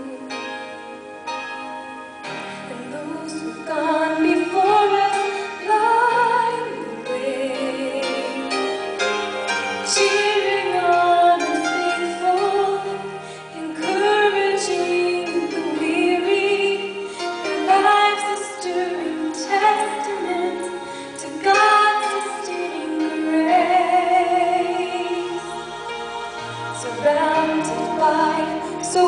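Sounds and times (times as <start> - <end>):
soft instrumental accompaniment: 0.0 - 29.0
woman singing into microphone: 2.6 - 8.8, 9.9 - 26.0, 26.7 - 29.0.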